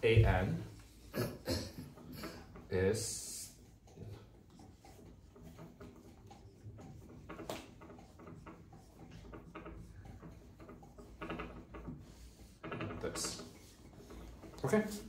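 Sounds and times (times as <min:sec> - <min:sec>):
marker scratching on whiteboard: 0:01.8 - 0:15.0.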